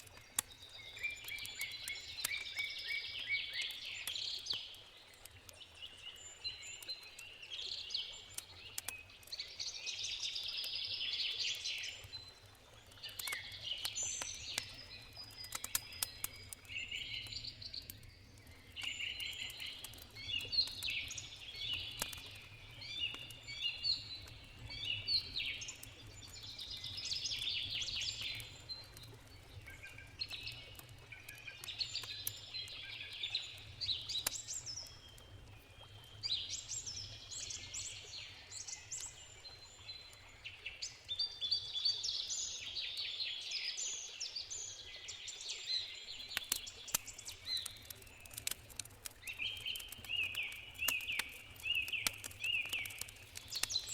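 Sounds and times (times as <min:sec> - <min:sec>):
campfire crackling: 0:00.0 - 0:43.0, 0:43.8 - 0:53.9
songbirds singing: 0:00.0 - 0:53.9.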